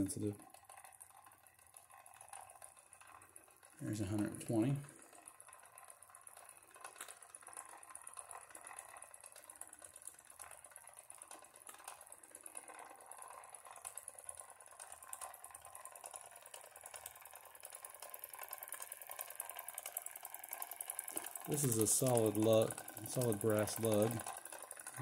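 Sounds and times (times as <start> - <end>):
toy steam engine chuffing: 0.0 - 25.0.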